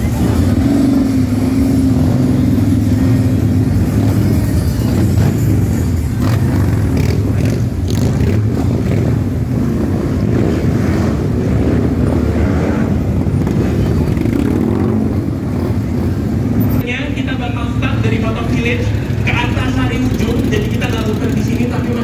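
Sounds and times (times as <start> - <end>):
motorcycles rolling past: 0.0 - 16.8, 17.6 - 22.0.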